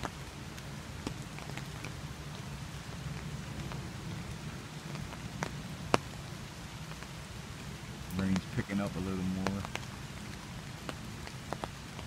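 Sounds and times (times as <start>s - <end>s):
rain falling on river: 0.0s - 12.0s
raindrops ticking on umbrella: 0.0s - 12.0s.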